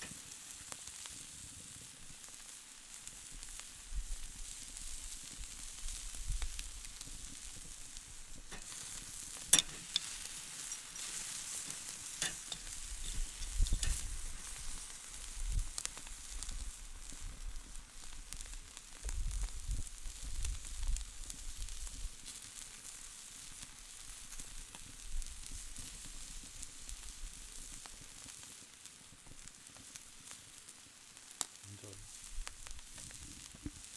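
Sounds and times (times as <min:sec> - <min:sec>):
food sizzling on a grill: 0:00.0 - 0:33.9.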